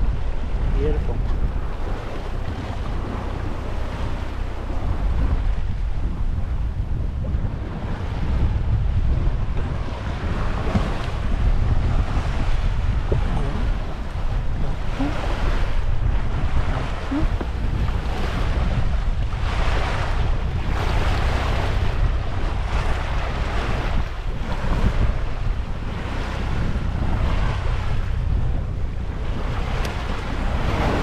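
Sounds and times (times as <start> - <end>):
water rushing along hull: 0.0 - 31.0
wind buffeting microphone: 0.0 - 31.0.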